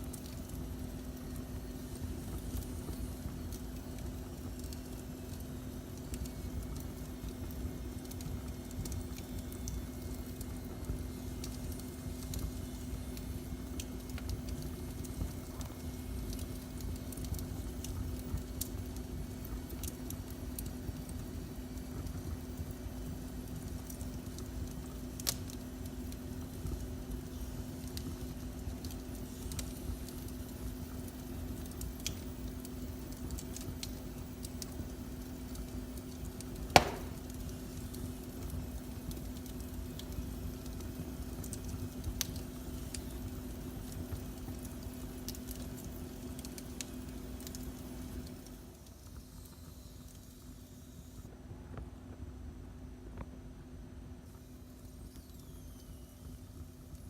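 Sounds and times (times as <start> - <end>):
fire crackling in a fireplace: 0.0 - 57.0
steady low hum: 0.0 - 57.0.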